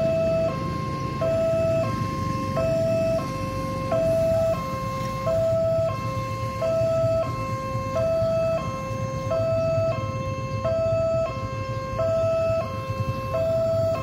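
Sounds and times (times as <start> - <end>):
low rumble of idling engines: 0.0 - 14.0
two-tone crossing alarm: 0.0 - 14.0.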